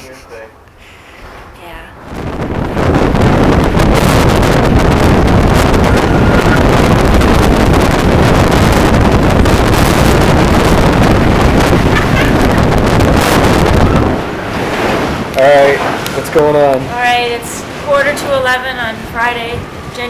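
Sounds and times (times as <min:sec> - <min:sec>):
strong wind on microphone: 0:01.1 - 0:20.0.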